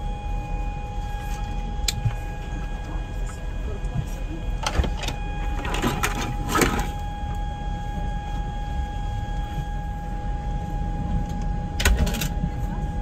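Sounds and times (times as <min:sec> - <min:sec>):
machinery hum with whine: 0:00.0 - 0:13.0.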